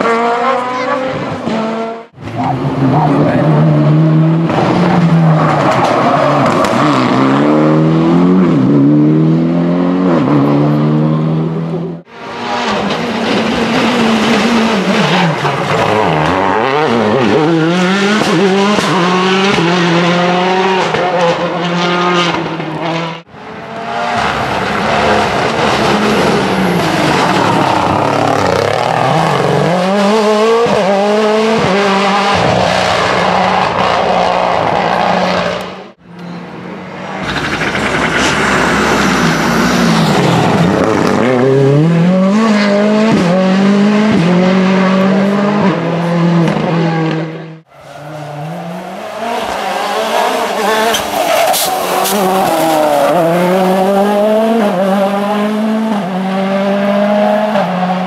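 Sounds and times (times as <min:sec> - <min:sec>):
rally car engines revving hard: 0:00.0 - 0:58.0.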